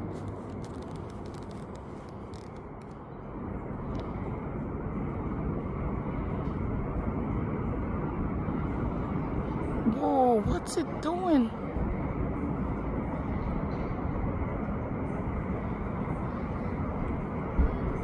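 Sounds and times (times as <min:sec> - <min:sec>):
low rumble of distant vehicles: 0:00.0 - 0:18.0.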